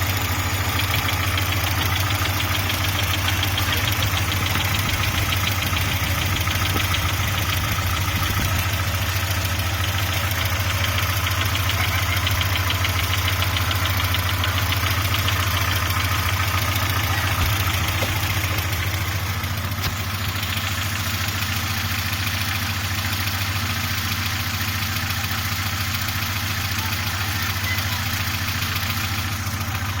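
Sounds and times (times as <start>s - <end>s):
car engine idling: 0.0s - 30.0s
engine knocking: 0.0s - 30.0s.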